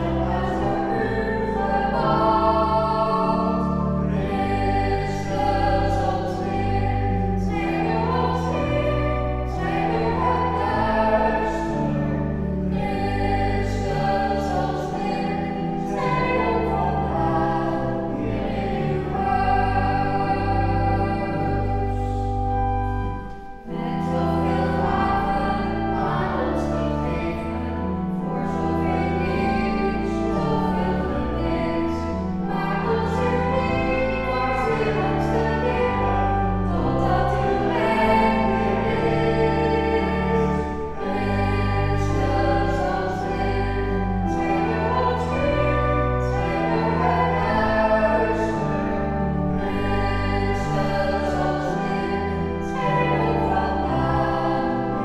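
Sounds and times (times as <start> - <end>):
man and woman singing a hymn: 0.0 - 55.0
pipe organ: 0.0 - 55.0.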